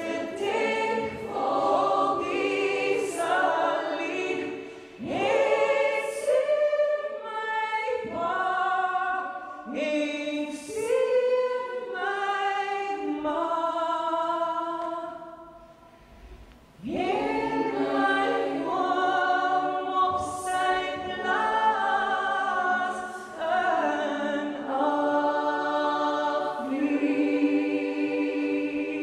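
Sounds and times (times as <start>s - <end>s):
choir singing in harmony: 0.0s - 29.0s.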